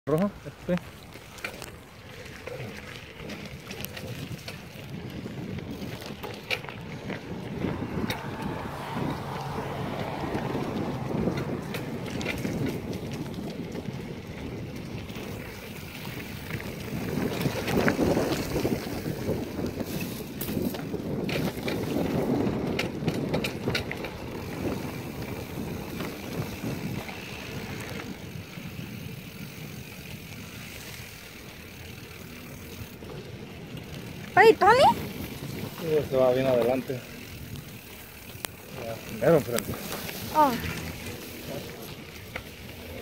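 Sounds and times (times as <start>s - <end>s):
bike clicks and rattles: 0.1s - 43.0s
tyre noise on dirt trail: 0.1s - 43.0s
wind buffeting microphone: 1.0s - 43.0s.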